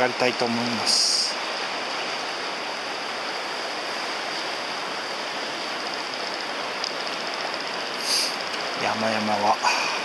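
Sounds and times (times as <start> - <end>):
river water flowing over stones: 0.0 - 10.0.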